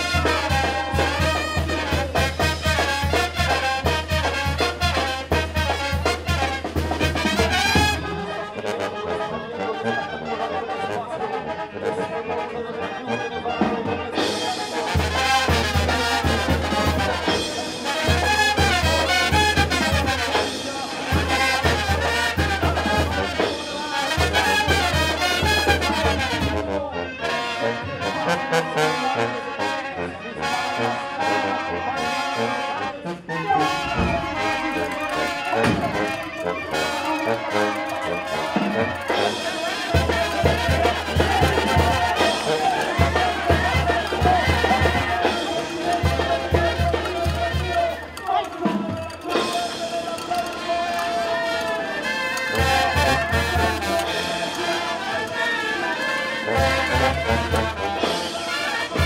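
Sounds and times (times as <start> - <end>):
brass band playing: 0.0 - 59.0.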